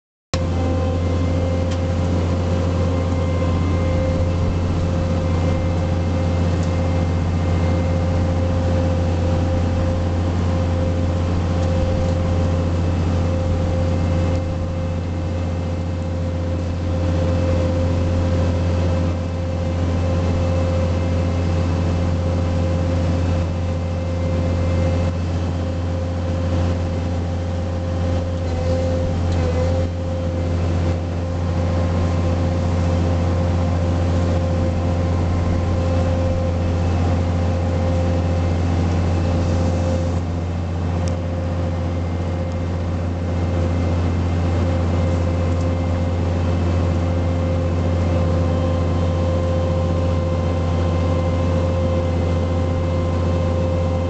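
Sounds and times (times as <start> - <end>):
constant machine whine: 0.3 - 54.0
deep engine drone: 0.3 - 54.0.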